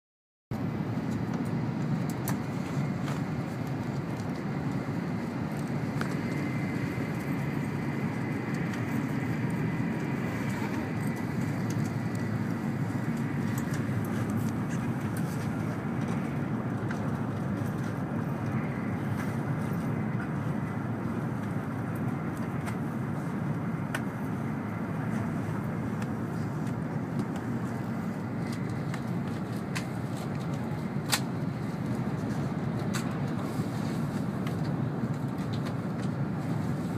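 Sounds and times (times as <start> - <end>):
train rumbling at speed: 0.5 - 36.9.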